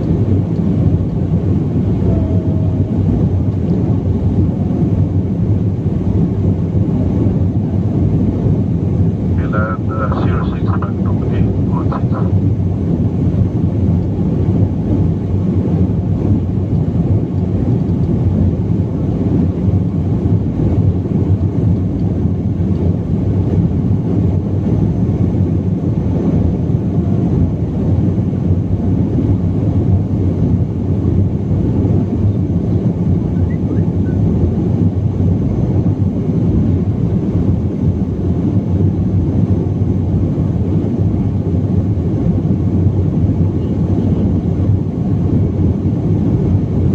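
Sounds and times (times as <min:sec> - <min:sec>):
jet cabin engine rumble: 0:00.0 - 0:46.9.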